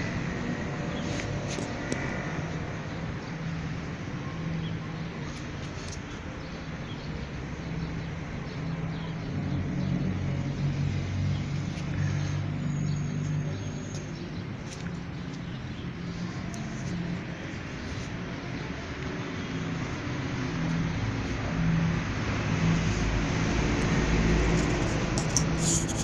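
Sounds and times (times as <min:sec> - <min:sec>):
motor vehicle rumble: 0:00.0 - 0:26.0.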